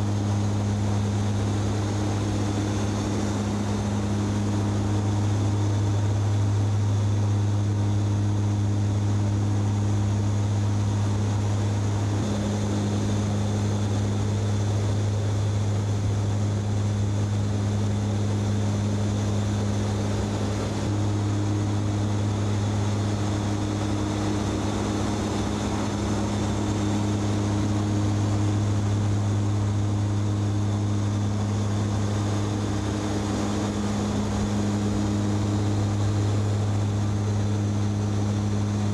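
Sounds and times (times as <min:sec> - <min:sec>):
propeller aircraft engines droning: 0:00.0 - 0:38.9.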